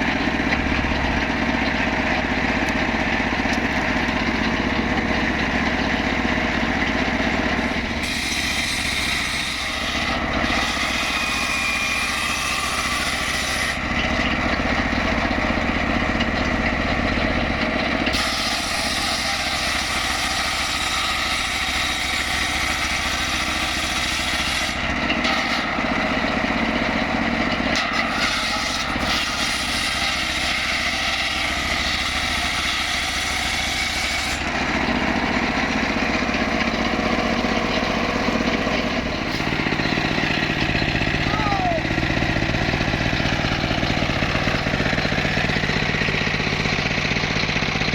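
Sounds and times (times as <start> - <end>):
saw cutting timber: 0.0 - 47.9
wood saw engine running: 0.0 - 47.9.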